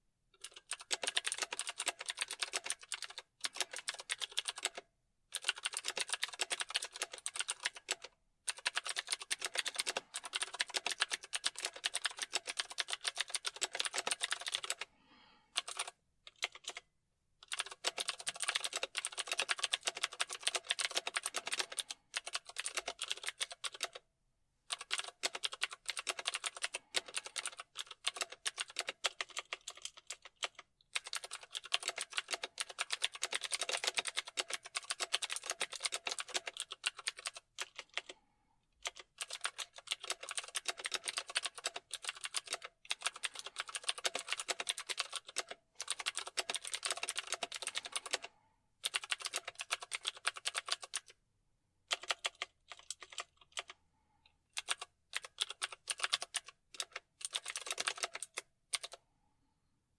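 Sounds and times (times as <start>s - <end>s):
keyboard typing: 0.4s - 14.9s, 15.6s - 24.0s, 24.7s - 38.2s, 38.8s - 51.2s, 51.9s - 53.8s, 54.5s - 59.0s.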